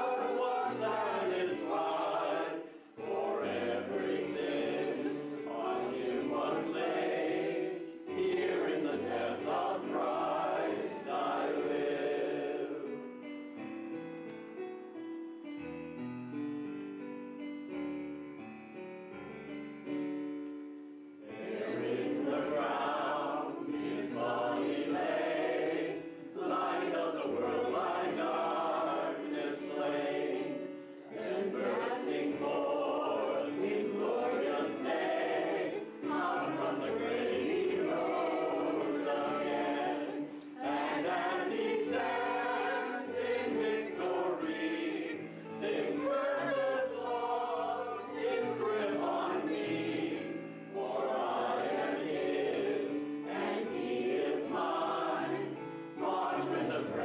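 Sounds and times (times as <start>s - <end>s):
group singing a hymn: 0.0s - 13.0s, 21.2s - 57.0s.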